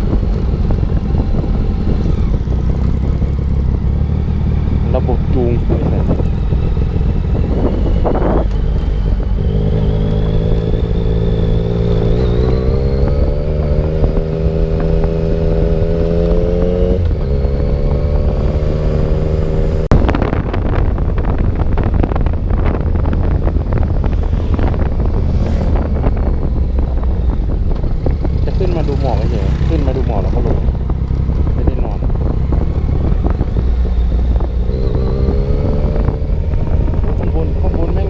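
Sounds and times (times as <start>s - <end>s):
motorcycle engine accelerating: 0.0s - 38.0s
wind rumble on microphone: 0.0s - 38.0s.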